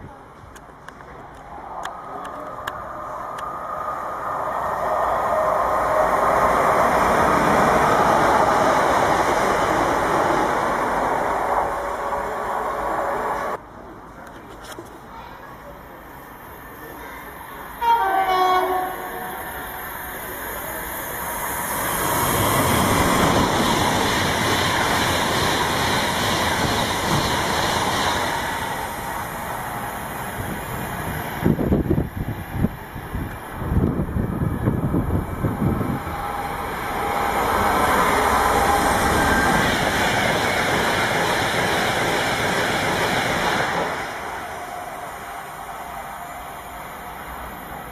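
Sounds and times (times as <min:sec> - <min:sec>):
electric train passing at speed: 0:00.0 - 0:14.4, 0:15.0 - 0:47.9.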